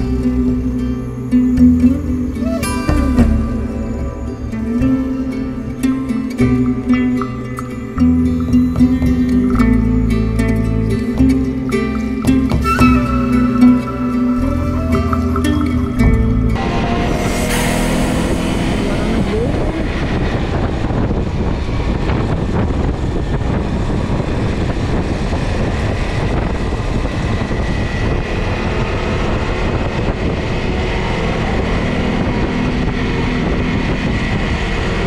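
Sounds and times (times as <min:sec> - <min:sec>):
vehicle rumble with engine: 0:00.0 - 0:35.0.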